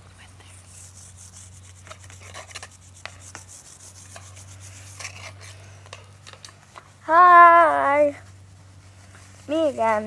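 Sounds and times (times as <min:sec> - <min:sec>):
steel wool scrubbing grill grate: 0:00.2 - 0:10.0.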